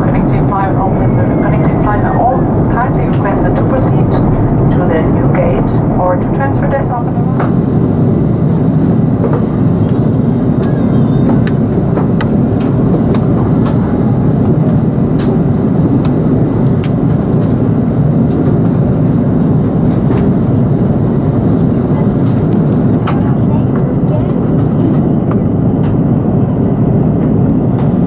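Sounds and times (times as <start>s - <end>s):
airplane cabin noise: 0.0s - 28.0s.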